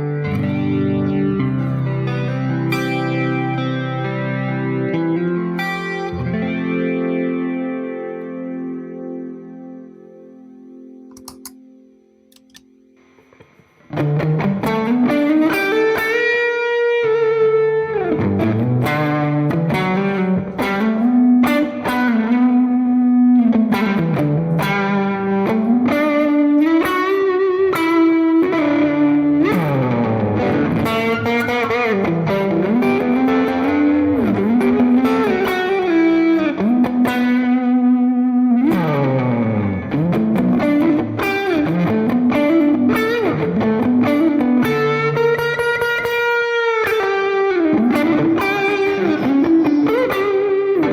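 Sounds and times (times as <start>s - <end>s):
overdriven electric guitar melody: 0.0s - 50.9s.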